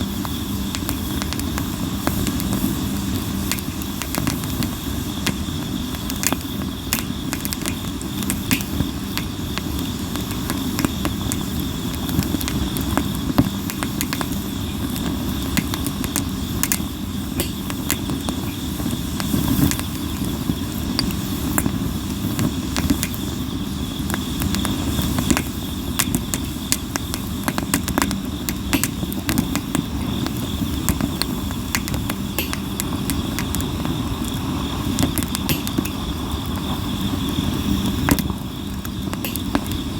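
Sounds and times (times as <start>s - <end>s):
campfire crackling and popping: 0.0s - 39.9s
high insect trill: 0.0s - 39.9s.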